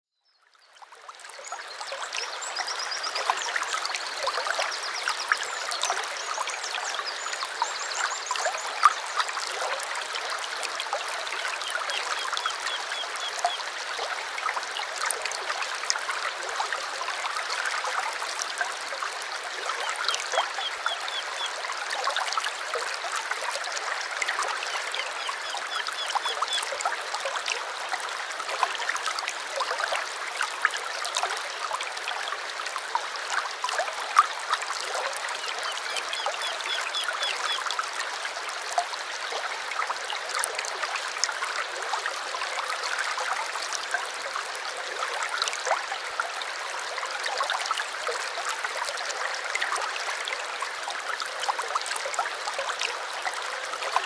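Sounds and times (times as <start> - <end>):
small stream babbling: 0.3 - 54.0.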